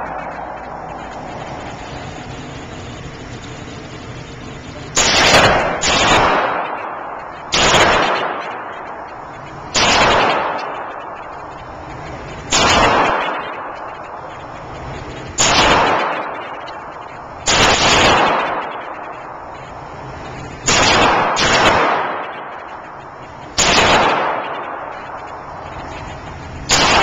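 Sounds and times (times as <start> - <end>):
pistol shots indoors: 4.8 - 27.0.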